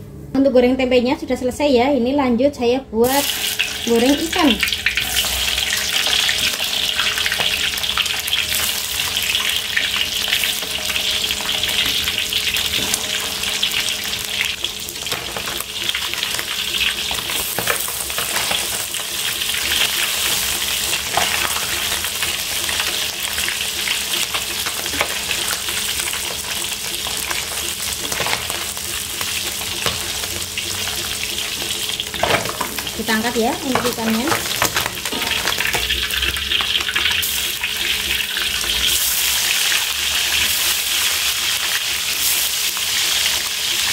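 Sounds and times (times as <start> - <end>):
fish sizzling in hot oil: 3.0 - 43.9.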